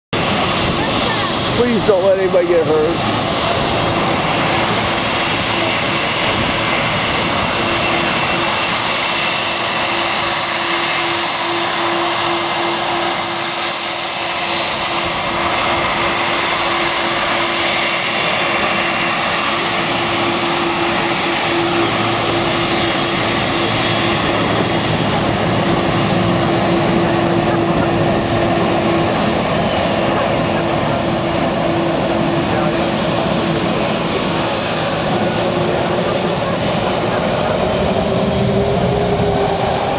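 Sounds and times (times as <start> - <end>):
jet engines running: 0.2 - 39.9.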